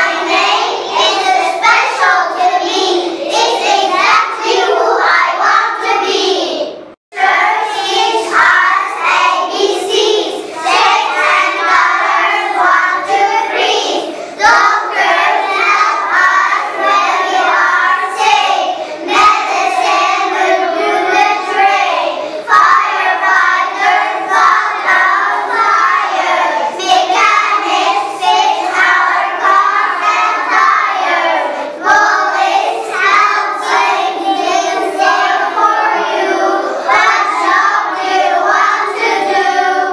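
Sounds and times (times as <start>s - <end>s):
children singing in chorus: 0.0s - 39.9s.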